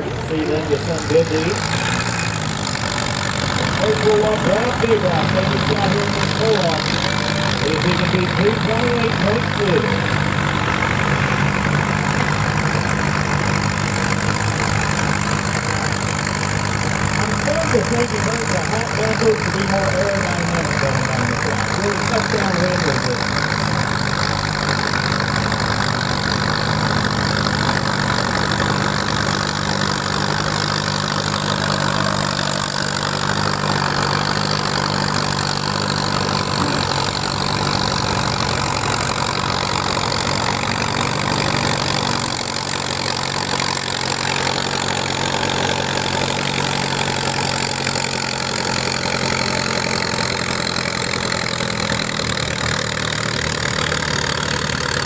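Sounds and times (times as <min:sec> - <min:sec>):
tractor engine running under load: 0:00.0 - 0:55.0.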